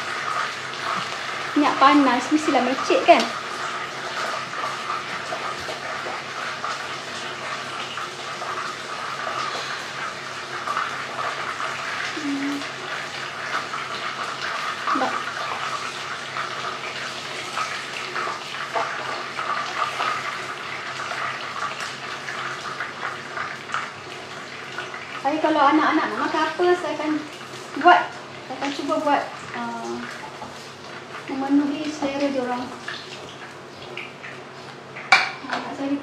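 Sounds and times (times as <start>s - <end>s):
chicken deep-frying in oil: 0.0s - 36.0s
oil crackling spatters: 0.0s - 36.0s.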